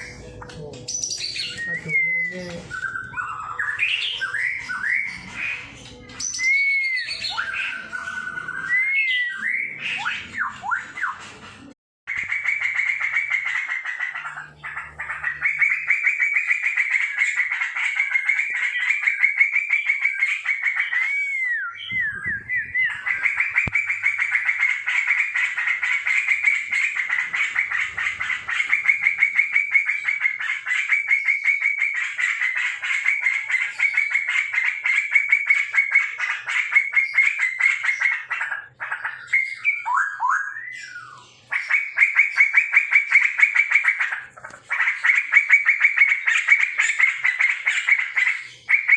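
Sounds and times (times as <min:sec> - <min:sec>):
birds rattling chatter: 0:00.0 - 0:48.9.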